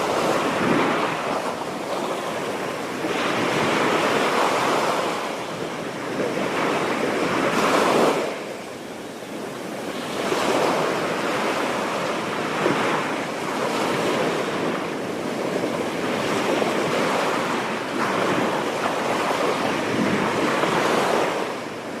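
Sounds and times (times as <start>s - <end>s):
ocean surf breaking: 0.0s - 22.0s
wind on microphone: 0.0s - 22.0s.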